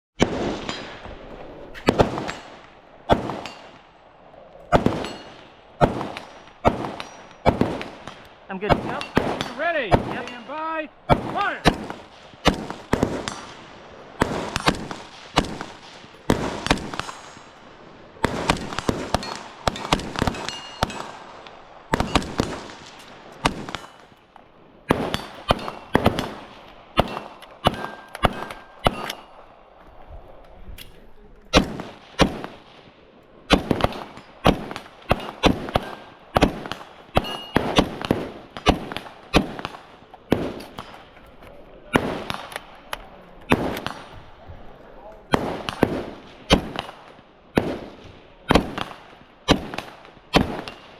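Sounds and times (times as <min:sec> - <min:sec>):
airsoft guns firing: 0:01.8 - 0:03.9, 0:04.7 - 0:17.6, 0:18.2 - 0:24.2, 0:24.9 - 0:29.5, 0:31.5 - 0:32.8, 0:33.4 - 0:41.3, 0:41.9 - 0:44.4, 0:45.3 - 0:50.9.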